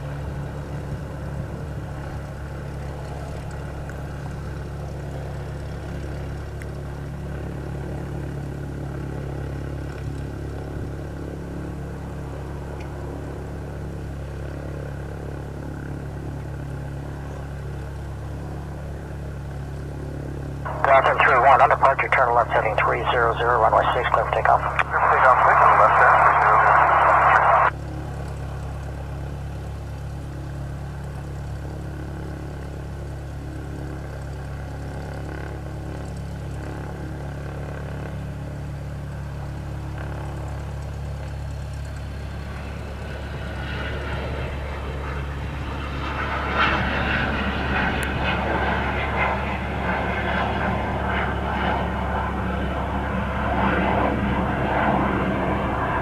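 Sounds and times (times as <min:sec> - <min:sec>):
jet engines during takeoff: 0:00.0 - 0:56.0.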